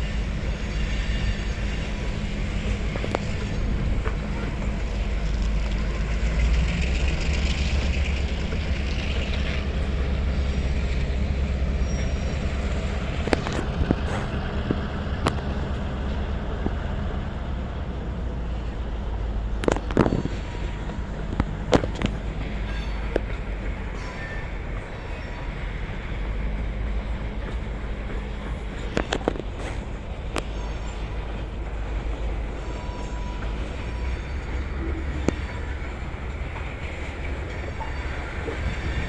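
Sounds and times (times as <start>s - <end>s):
diesel locomotive engine rumble: 0.0s - 39.0s.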